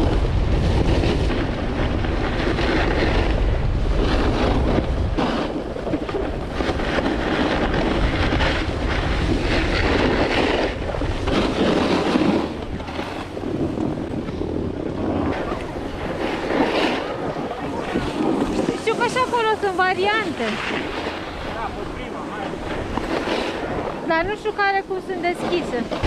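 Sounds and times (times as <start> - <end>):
skis scraping over snow: 0.0 - 26.0
wind buffeting microphone: 0.0 - 26.0.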